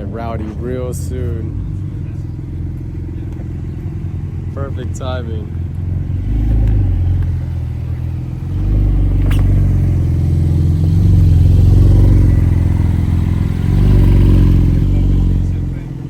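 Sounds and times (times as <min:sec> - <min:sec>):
car engine at low revs: 0:00.0 - 0:16.0.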